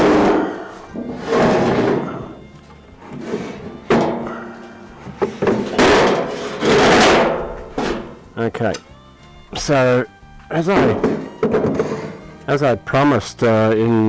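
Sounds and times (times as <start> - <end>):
background music: 0.0 - 14.0
handling bumps: 0.0 - 14.0.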